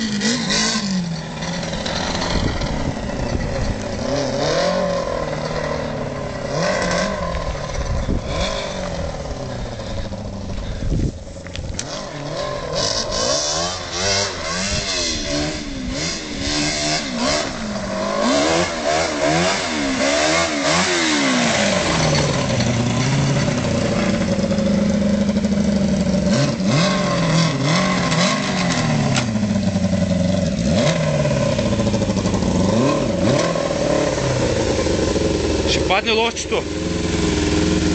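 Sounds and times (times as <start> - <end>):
quad bike engine revving: 0.0 - 37.9.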